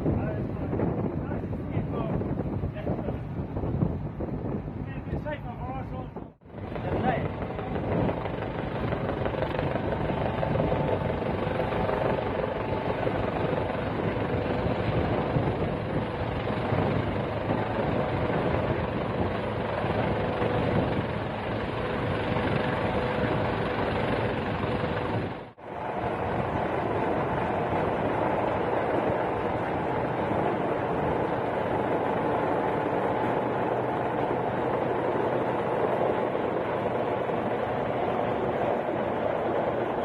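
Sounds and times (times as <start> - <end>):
helicopter rotor and engine: 0.0 - 40.0.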